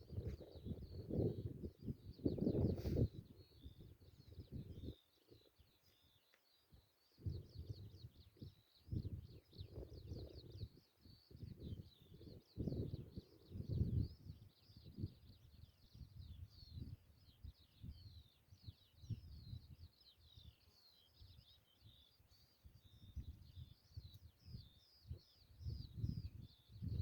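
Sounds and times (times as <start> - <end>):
wind rumble on microphone: 0.0 - 5.7, 7.1 - 27.0
songbirds chirping: 0.0 - 27.0.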